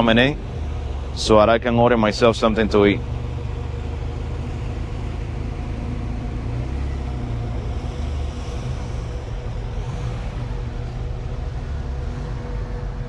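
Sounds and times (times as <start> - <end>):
car engines rumbling: 0.0 - 13.0
faint steady hum: 0.0 - 13.0.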